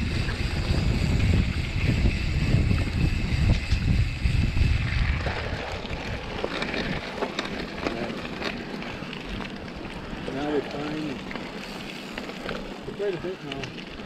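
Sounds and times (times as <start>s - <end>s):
wind buffeting microphone: 0.0s - 13.6s
bike tyres rolling on gravel: 0.0s - 14.0s.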